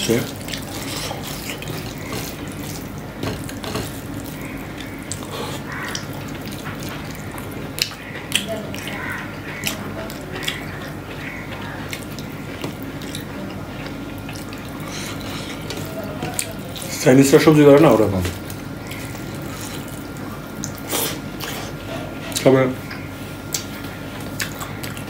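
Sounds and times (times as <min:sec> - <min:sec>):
steady low hum: 0:00.0 - 0:25.0
wet chewing and lip smacks: 0:00.3 - 0:16.9, 0:18.4 - 0:21.6, 0:22.3 - 0:25.0.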